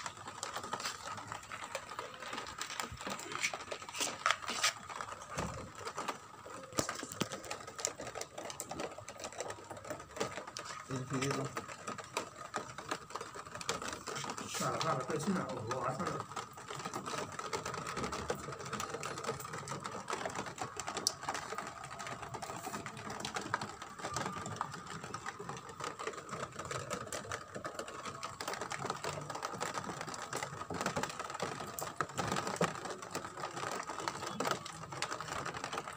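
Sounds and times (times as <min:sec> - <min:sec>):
clicking and rattling mechanism: 0:00.0 - 0:35.9.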